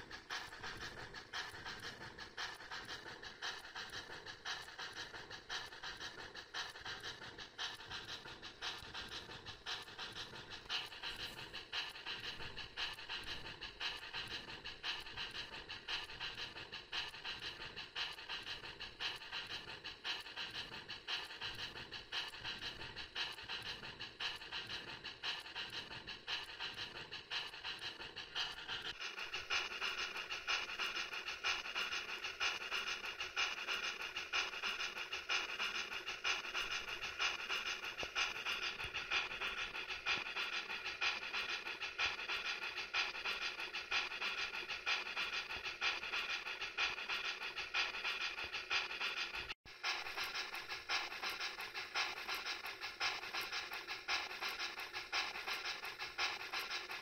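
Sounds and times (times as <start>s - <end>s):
steam locomotive chuffs: 0.0s - 57.0s.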